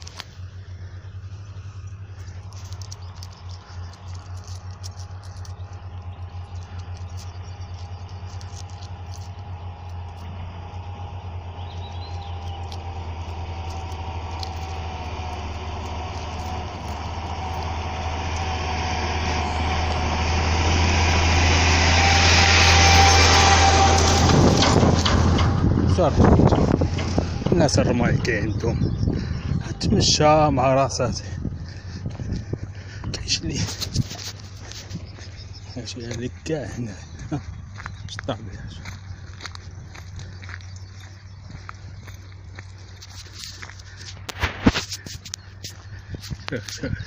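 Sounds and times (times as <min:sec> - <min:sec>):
vehicle engine approaching: 0:00.0 - 0:47.0.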